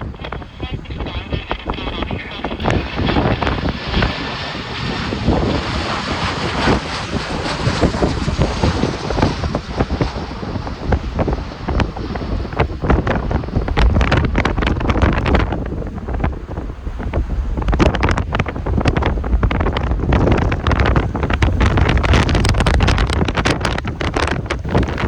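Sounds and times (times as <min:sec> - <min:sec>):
strong gusting wind on microphone: 0:00.0 - 0:25.0.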